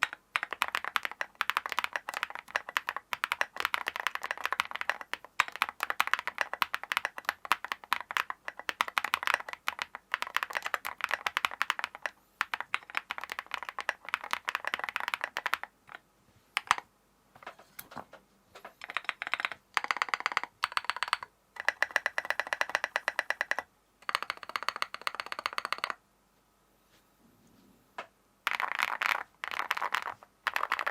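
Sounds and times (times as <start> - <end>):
mechanical keyboard typing: 0.0 - 16.0, 16.6 - 16.8, 18.8 - 26.0, 28.5 - 30.9.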